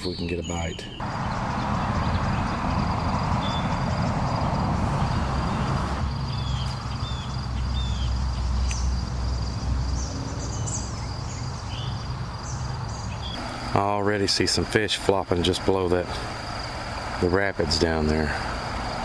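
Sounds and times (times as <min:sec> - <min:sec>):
bird chirps: 0:00.0 - 0:19.0
insect trilling: 0:01.0 - 0:19.0.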